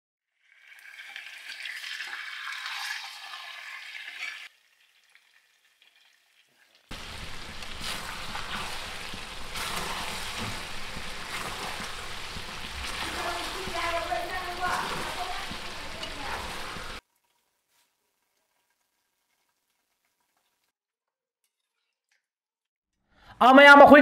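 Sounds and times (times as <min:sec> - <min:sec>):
chicken sizzling in a pan: 0:00.4 - 0:20.7.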